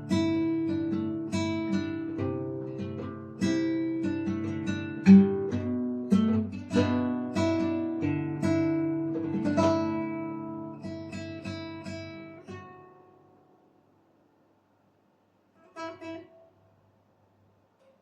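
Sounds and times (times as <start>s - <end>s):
acoustic guitar chords: 0.0s - 13.8s, 15.6s - 16.7s.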